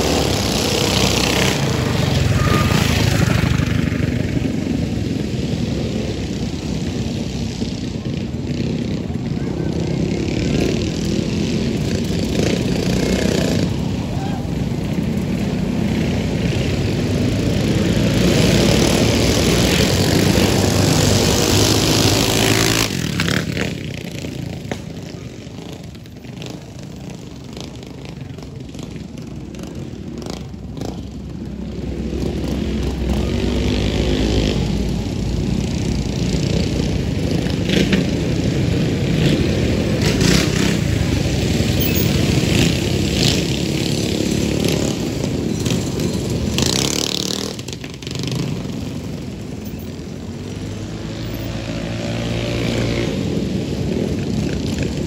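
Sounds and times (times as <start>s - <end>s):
mini bike engines racing: 0.0s - 55.0s.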